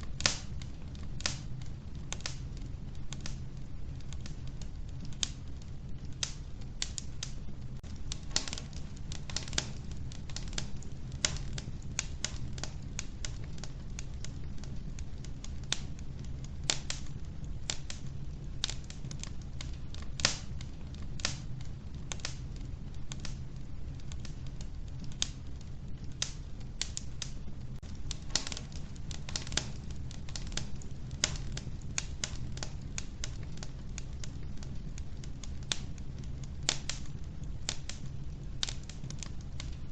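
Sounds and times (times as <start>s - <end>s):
logs crackling in a stove: 0.0s - 39.9s
low rumble of flames: 0.0s - 39.9s.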